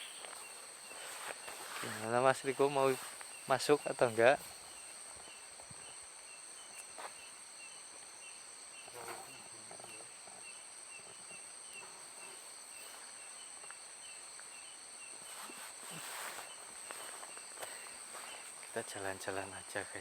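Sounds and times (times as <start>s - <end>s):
faint rustles: 0.0s - 7.4s, 8.9s - 13.8s, 14.4s - 20.0s
insect chirping: 0.0s - 20.0s
insects high-pitched drone: 0.0s - 20.0s.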